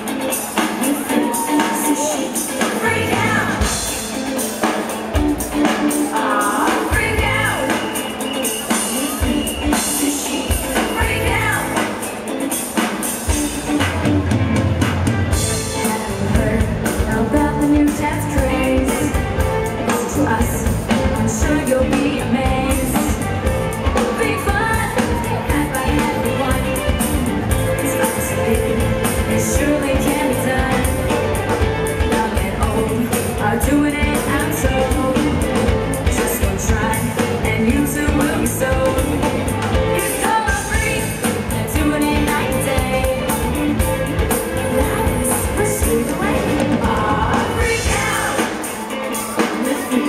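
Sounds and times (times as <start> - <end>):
live pop-rock band with singer: 0.0 - 50.0.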